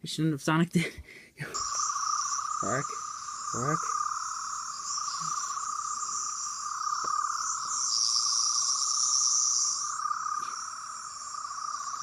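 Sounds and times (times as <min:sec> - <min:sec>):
high hiss: 0:01.4 - 0:12.0
warbling electronic whine: 0:01.6 - 0:12.0.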